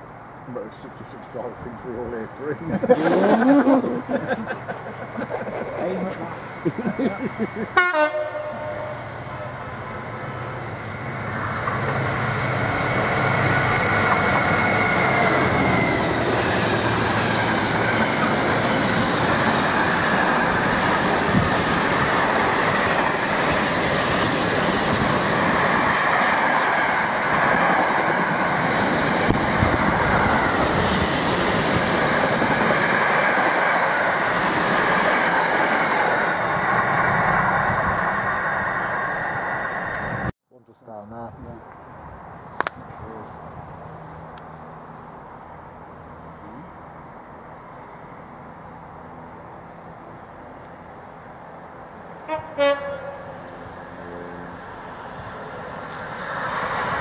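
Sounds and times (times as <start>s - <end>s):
diesel locomotive engine humming: 0.0s - 40.3s, 43.0s - 57.0s.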